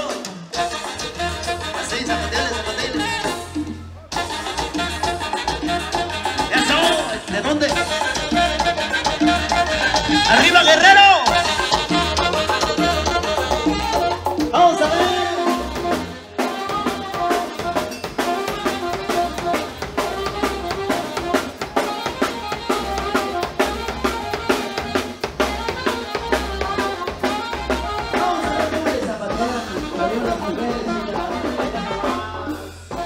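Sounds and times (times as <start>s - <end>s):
latin band music: 0.0s - 33.0s.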